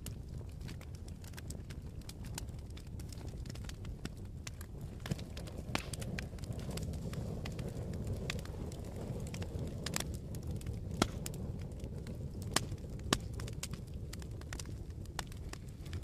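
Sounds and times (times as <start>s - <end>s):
sharp pops from fire: 0.0s - 16.0s
wood fire crackling: 0.0s - 16.0s.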